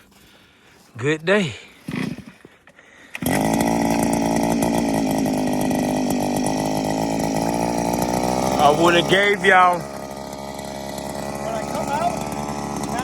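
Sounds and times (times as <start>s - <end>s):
ice auger motor running: 1.8s - 2.4s, 3.0s - 13.0s.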